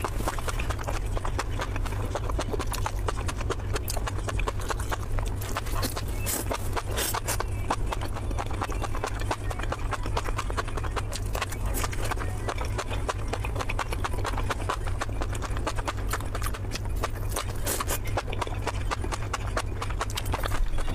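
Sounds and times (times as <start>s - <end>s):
steady low hum: 0.0s - 20.9s
wet chewing and mouth clicks: 0.0s - 20.9s.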